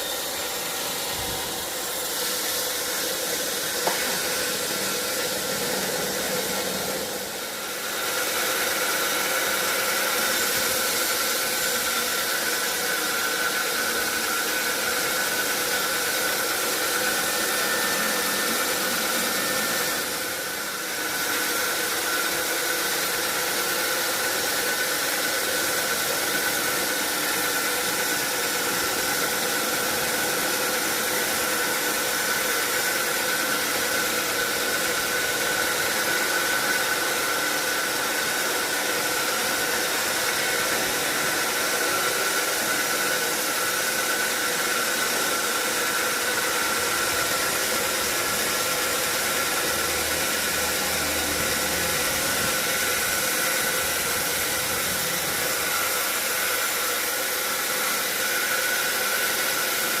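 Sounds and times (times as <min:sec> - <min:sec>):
sawmill saw whining: 0:00.0 - 1:00.0.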